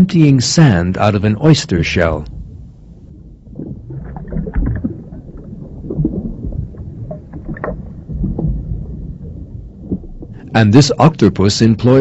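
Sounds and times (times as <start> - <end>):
low underwater rumble: 0.0 - 11.4.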